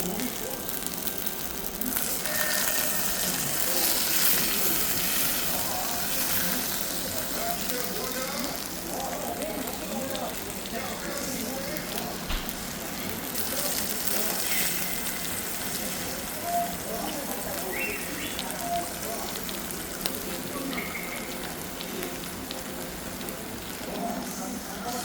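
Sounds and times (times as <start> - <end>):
chickens sizzling over fire: 0.0 - 25.0.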